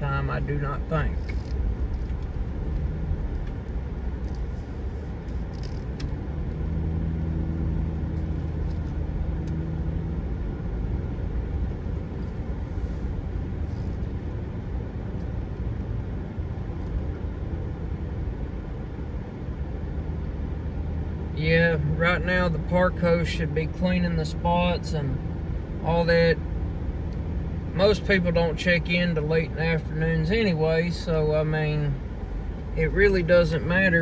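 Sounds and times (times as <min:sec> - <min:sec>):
vehicle engine and road rumble: 0:00.0 - 0:34.0.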